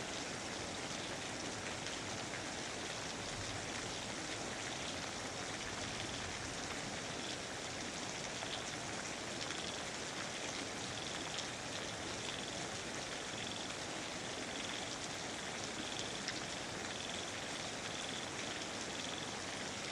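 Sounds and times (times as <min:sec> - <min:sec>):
steady rainfall: 0:00.0 - 0:19.9.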